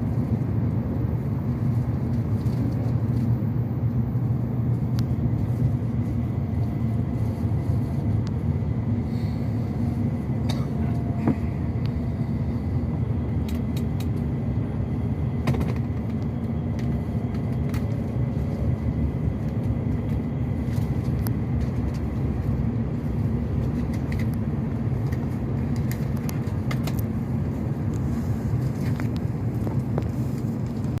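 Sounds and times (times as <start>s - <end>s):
train cabin rumble: 0.0s - 31.0s.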